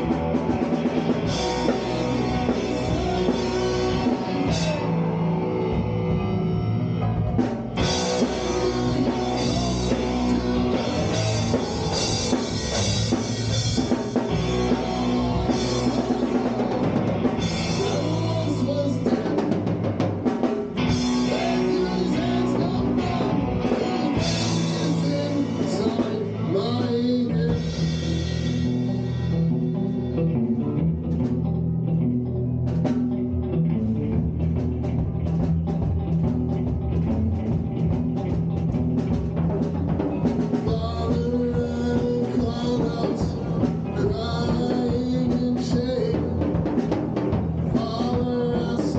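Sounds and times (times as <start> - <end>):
drum kit: 0.0 - 31.8, 32.6 - 48.9
electric guitars: 0.0 - 48.9.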